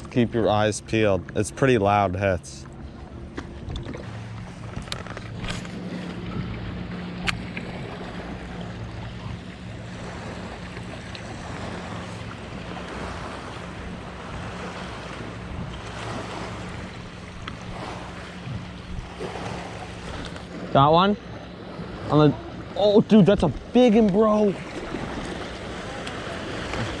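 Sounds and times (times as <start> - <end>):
boat engine hum: 0.0 - 27.0
small waves lapping: 0.0 - 27.0.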